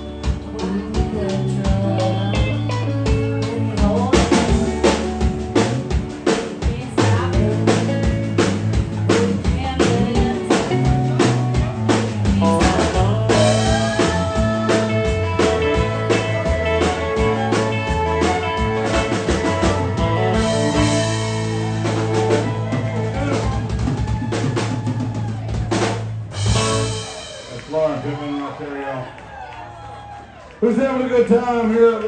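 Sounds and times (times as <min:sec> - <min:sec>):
country band playing: 0:00.0 - 0:32.0.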